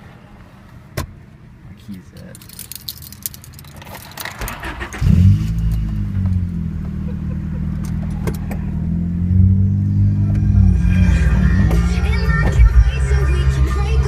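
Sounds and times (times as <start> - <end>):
car engine starting and idling: 2.4 - 14.0.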